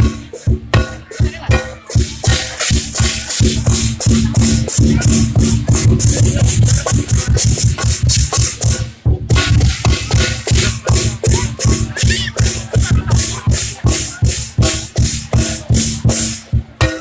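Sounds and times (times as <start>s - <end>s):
electronic dance music: 0.0s - 17.0s.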